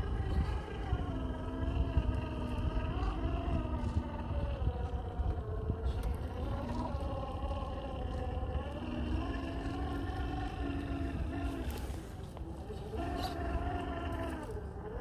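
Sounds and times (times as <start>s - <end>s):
toy car motor whine: 0.0s - 15.0s.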